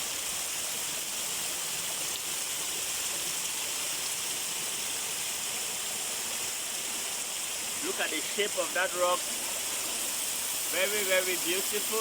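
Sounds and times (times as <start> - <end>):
spring water gushing and splashing: 0.0 - 12.0.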